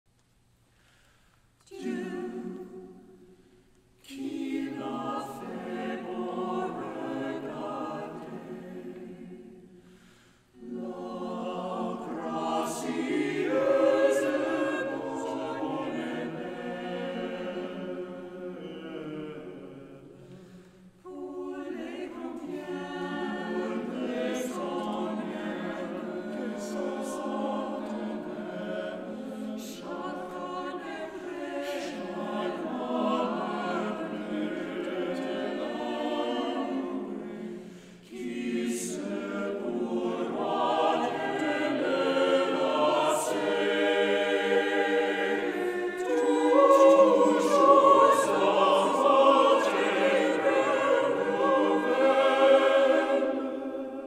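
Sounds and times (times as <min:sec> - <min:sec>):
mixed choir singing a cappella: 0:01.6 - 0:54.0.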